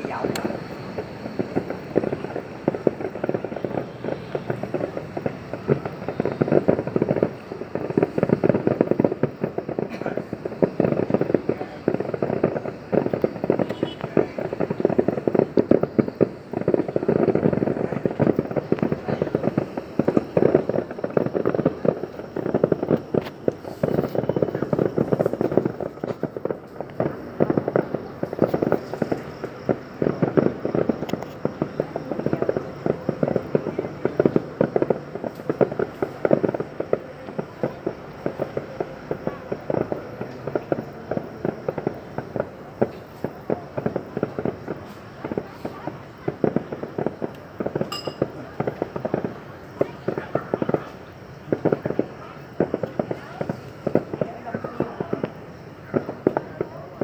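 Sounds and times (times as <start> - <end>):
fireworks crackling bangs: 0.0 - 57.0.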